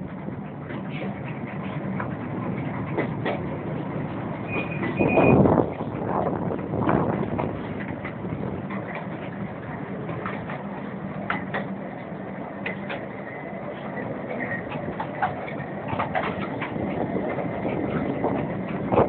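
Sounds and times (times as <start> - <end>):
miniature train rumbling: 0.0 - 19.0
train clicks and knocks: 0.0 - 19.0.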